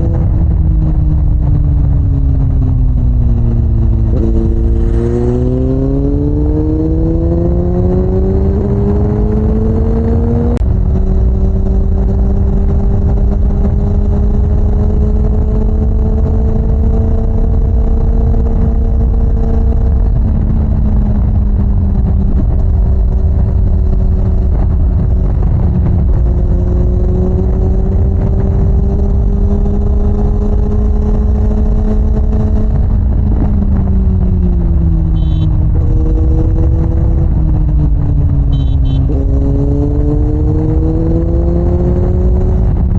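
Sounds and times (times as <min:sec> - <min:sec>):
motorcycle engine revving: 0:00.0 - 0:42.9
wind rumble on microphone: 0:00.0 - 0:42.9.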